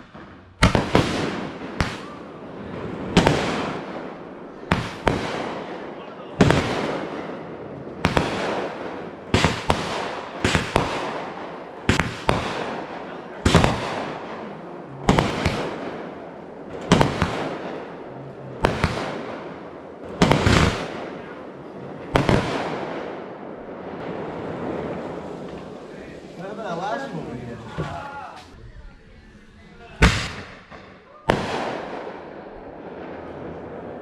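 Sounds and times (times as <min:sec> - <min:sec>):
firework bangs: 0:00.0 - 0:28.6, 0:30.0 - 0:34.0.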